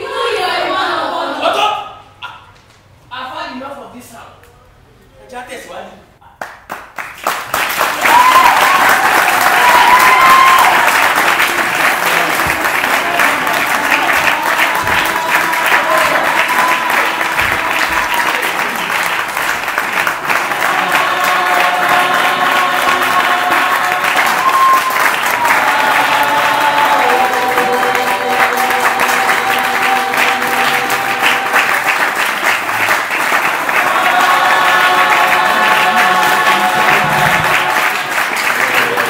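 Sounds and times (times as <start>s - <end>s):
audience clapping: 6.2s - 39.0s.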